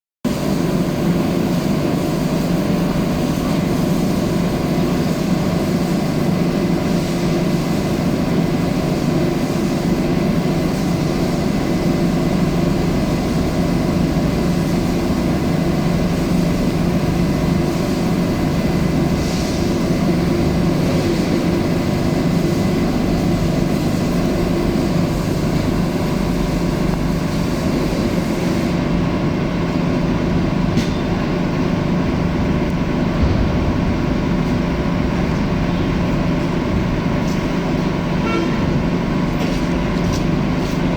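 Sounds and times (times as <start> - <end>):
steady mechanical drone: 0.3 - 40.9.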